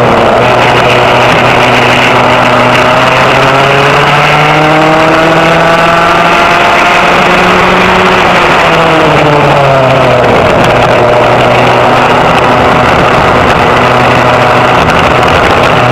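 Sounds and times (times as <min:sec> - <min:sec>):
go-kart engine at speed: 0:00.0 - 0:15.9.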